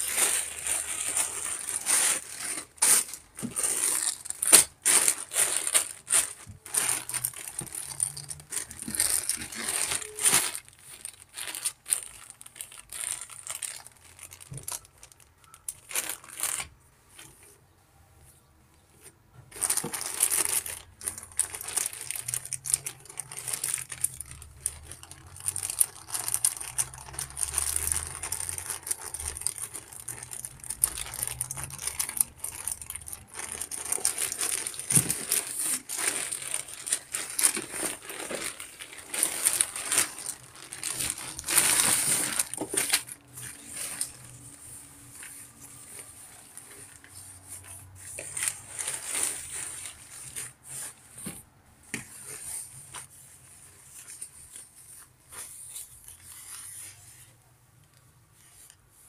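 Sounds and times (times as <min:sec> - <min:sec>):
plastic bags crinkling: 0:00.0 - 0:16.8, 0:19.5 - 0:53.2.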